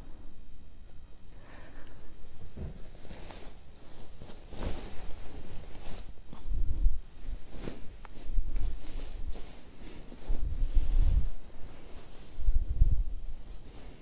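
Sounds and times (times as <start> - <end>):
fabric rustling: 2.1 - 14.0.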